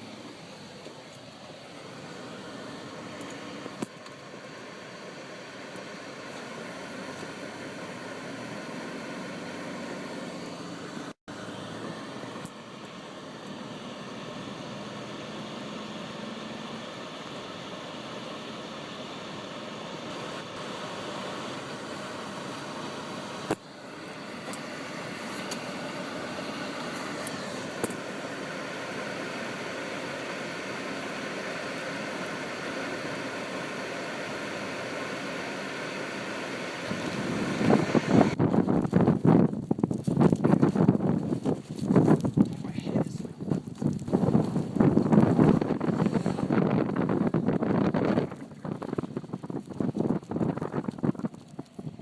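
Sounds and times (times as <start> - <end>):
car engine and tyre hum: 0.0 - 52.0.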